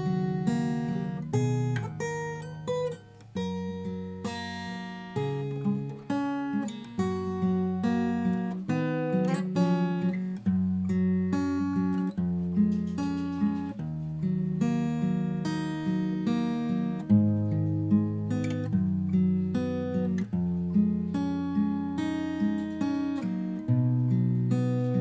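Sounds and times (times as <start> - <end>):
acoustic guitar chords: 0.0 - 25.0.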